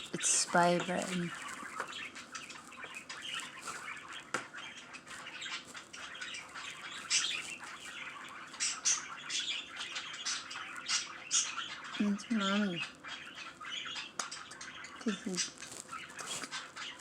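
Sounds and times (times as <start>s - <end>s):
pet bird chirping: 0.0s - 17.0s.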